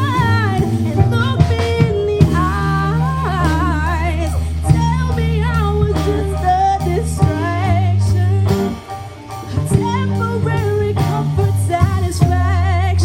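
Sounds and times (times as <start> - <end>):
drum beat: 0.0 - 12.6
sustained low bass notes: 0.0 - 13.0
woman singing with vibrato: 0.0 - 13.0.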